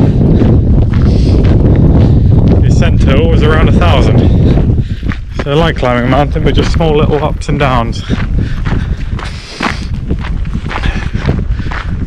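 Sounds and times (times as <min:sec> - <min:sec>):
hiker footsteps and rustle: 0:00.0 - 0:12.0
wind buffeting microphone: 0:00.0 - 0:12.0.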